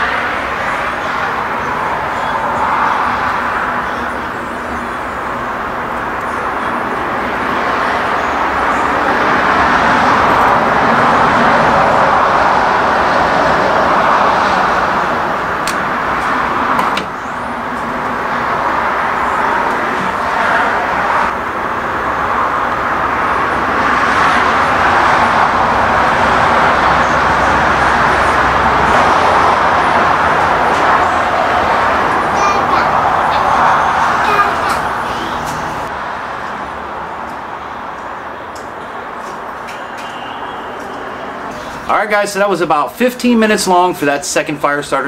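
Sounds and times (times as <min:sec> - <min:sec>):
loud rushing noise: 0:00.0 - 0:42.9.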